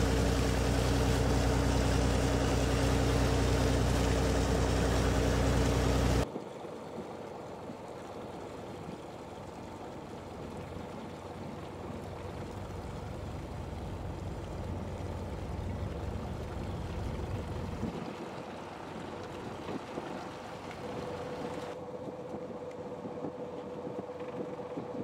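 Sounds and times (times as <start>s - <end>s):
boat engine running: 0.0s - 6.2s, 9.0s - 25.0s
water rushing along hull: 0.0s - 25.0s.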